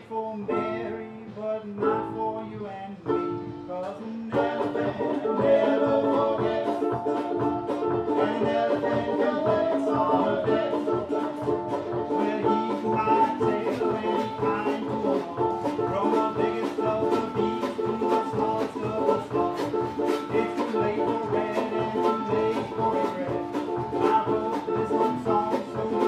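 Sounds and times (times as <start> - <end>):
banjo picking: 0.0 - 26.0
drum and cymbal beat: 0.1 - 26.0.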